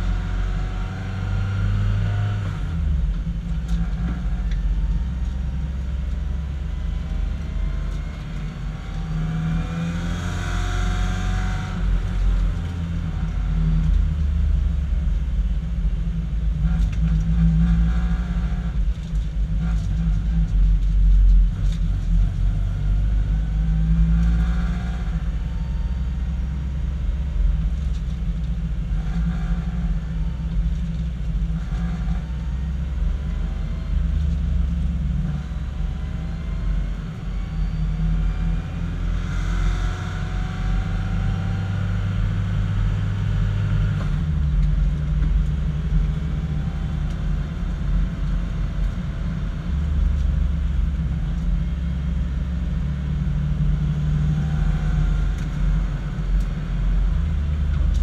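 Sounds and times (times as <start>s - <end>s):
race car engine drone: 0.0s - 58.0s
road noise: 0.0s - 58.0s.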